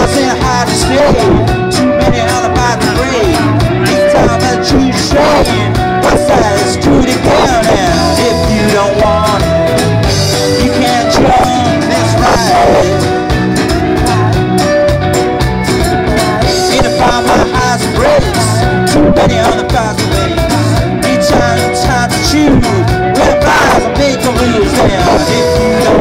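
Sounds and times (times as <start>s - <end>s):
live band playing upbeat song: 0.0s - 26.0s.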